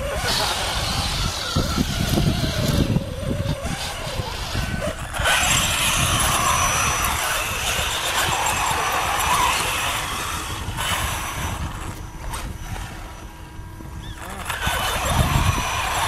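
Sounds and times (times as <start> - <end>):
electric motor whine: 0.0 - 16.0
tyres churning sand: 0.0 - 16.0.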